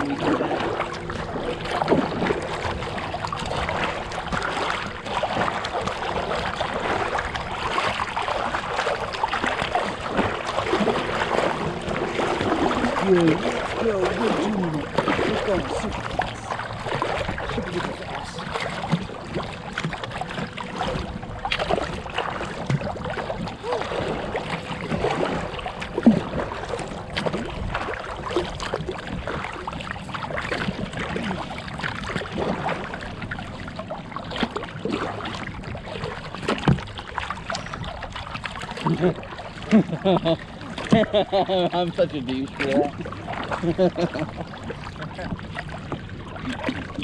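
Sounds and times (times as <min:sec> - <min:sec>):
paddle splashing in water: 0:00.0 - 0:47.0
water washing along hull: 0:00.0 - 0:47.0.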